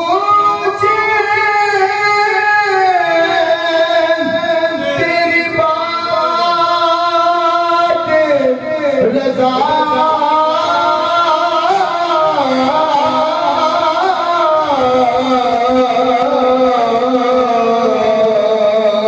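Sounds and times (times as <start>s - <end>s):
man singing into microphone: 0.0s - 19.0s.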